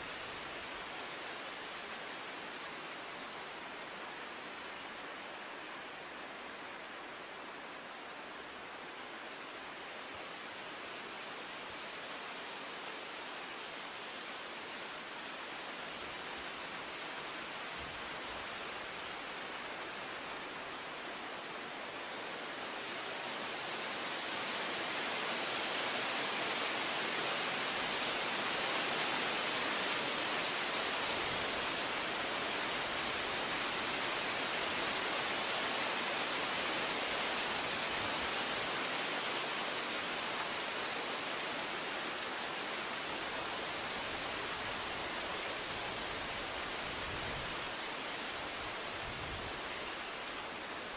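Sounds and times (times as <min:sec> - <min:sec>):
steady rushing nature noise: 0:00.0 - 0:50.9.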